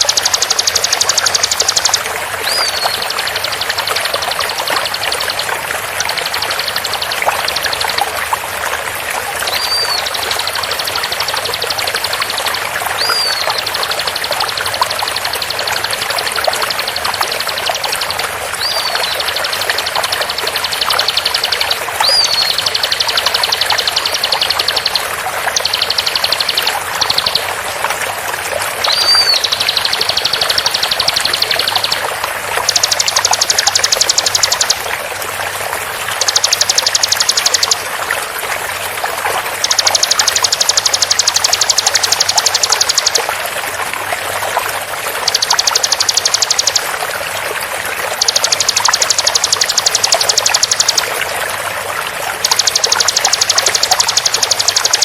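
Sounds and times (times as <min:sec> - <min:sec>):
bird song high chatter: 0:00.0 - 0:27.8, 0:28.7 - 0:35.0, 0:36.1 - 0:37.9, 0:39.5 - 0:43.5, 0:45.2 - 0:47.0, 0:48.0 - 0:51.3, 0:52.4 - 0:55.0
flowing water rushing: 0:00.0 - 0:55.0.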